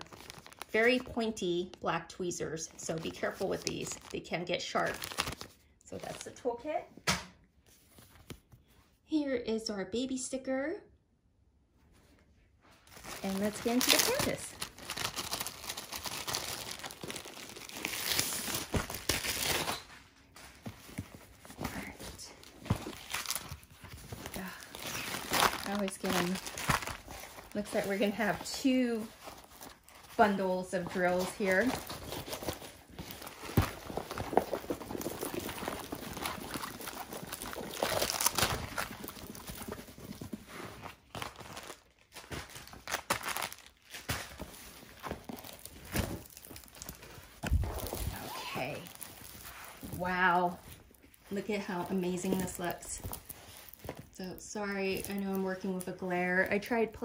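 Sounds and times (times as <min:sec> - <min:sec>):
paper and plastic rustling: 0:00.0 - 0:01.6, 0:02.7 - 0:06.4, 0:12.0 - 0:57.0
plastic wrapping crinkling: 0:00.0 - 0:01.9, 0:02.6 - 0:06.4, 0:12.8 - 0:57.0.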